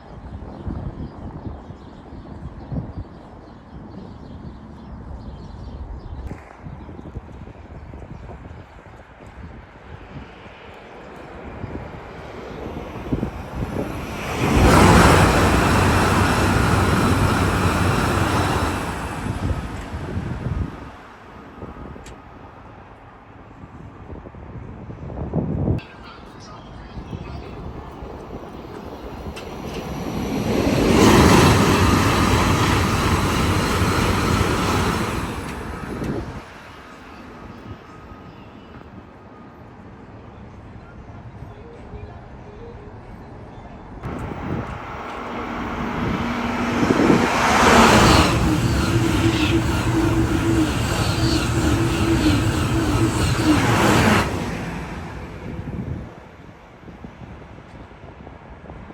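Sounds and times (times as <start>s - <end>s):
train passing at speed: 8.4s - 58.9s.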